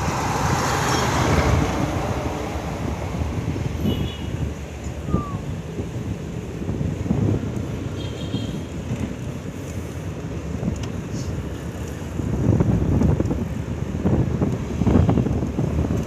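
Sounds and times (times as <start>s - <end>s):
wind buffeting microphone: 0.0s - 7.9s, 10.1s - 16.0s.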